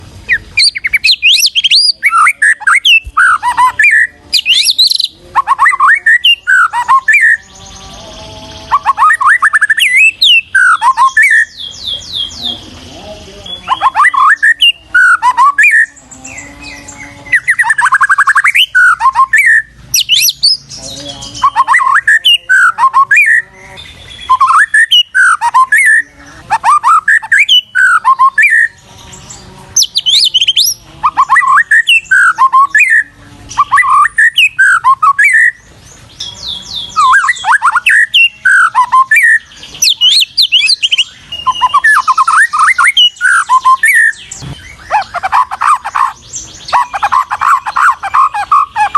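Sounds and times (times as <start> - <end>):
bird chattering: 0.0 - 48.9
bird singing whistled notes: 0.3 - 12.6, 13.5 - 48.9.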